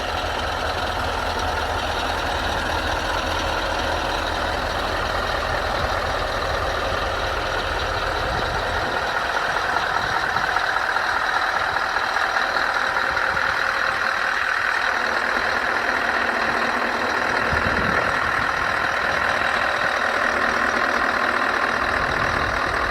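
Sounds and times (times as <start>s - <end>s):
truck diesel engine rumbling: 0.0s - 22.9s.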